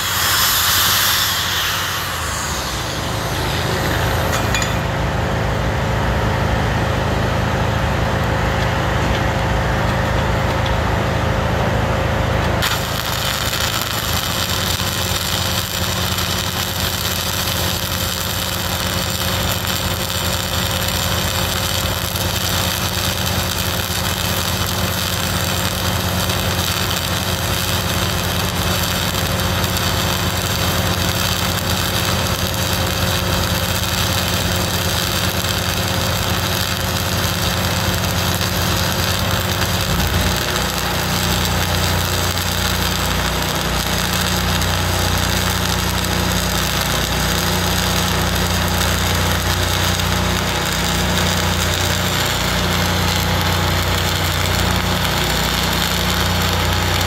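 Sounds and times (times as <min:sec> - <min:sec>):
welding arc crackling: 0:00.0 - 0:05.0, 0:12.6 - 0:57.0
welder engine running: 0:00.0 - 0:57.0.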